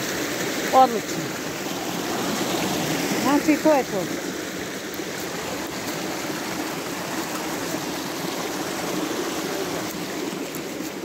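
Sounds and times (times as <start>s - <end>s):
brook rushing over rocks: 0.0s - 11.0s.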